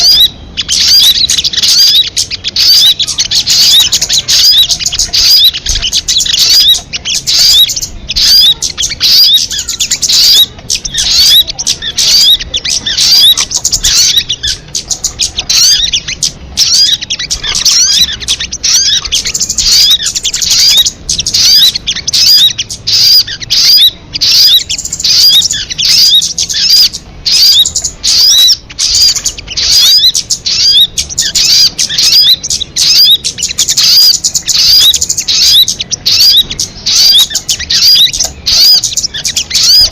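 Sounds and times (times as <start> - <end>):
bird chirping and whistling: 0.0 - 39.9.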